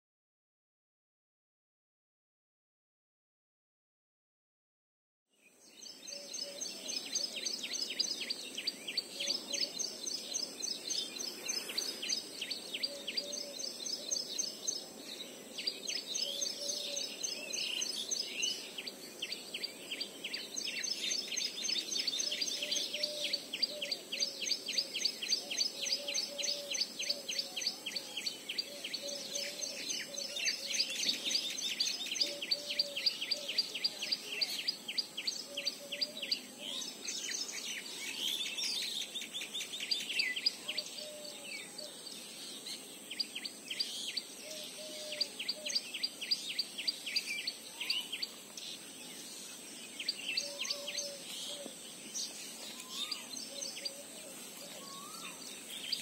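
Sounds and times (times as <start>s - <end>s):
birds chirping rapidly: 5.4s - 56.0s.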